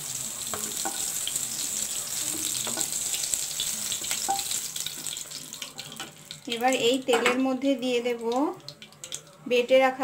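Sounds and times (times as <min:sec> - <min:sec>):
vegetables sizzling in hot oil: 0:00.0 - 0:09.0.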